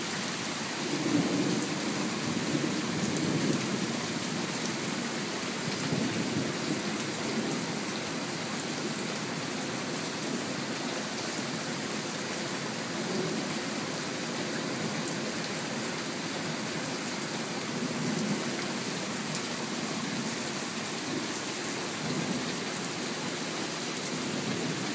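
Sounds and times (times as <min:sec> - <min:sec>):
rain falling on leaves: 0:00.0 - 0:24.9.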